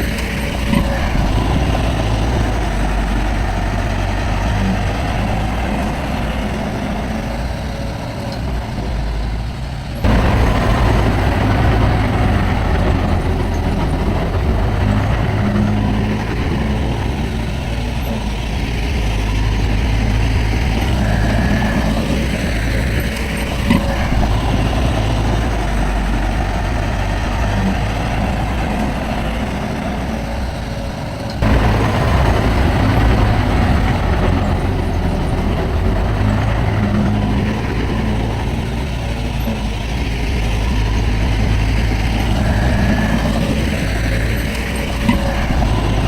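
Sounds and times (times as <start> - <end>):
diesel machinery running: 0.0 - 46.0.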